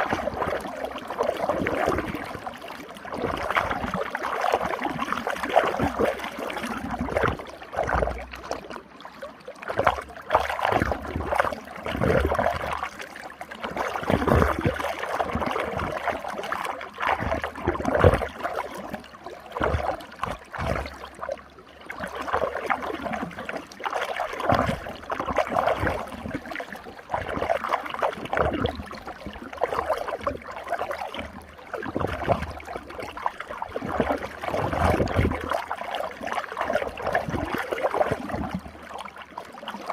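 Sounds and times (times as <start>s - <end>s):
water gurgling and splashing: 0.0s - 39.9s.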